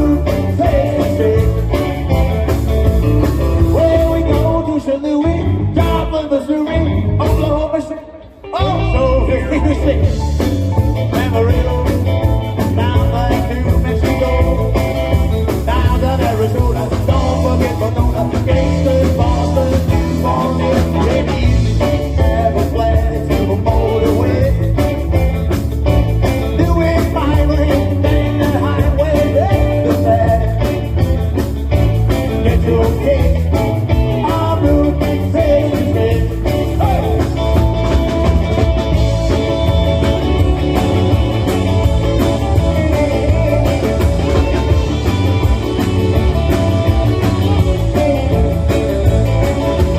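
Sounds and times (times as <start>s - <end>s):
person singing: 0.0s - 2.6s, 3.2s - 25.4s, 26.2s - 31.0s, 32.0s - 49.9s
bass guitar: 0.0s - 49.9s
drums: 0.0s - 49.9s
electric guitar: 0.0s - 49.9s.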